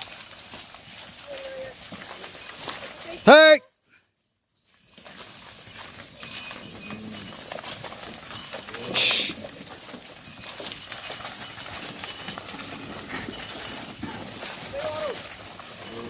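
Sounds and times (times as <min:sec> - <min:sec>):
cattle hooves clopping: 0:00.0 - 0:16.0.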